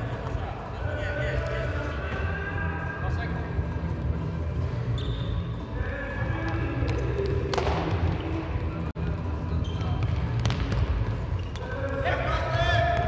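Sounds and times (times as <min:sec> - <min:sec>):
shoes on indoor court floor: 0:00.0 - 0:13.0.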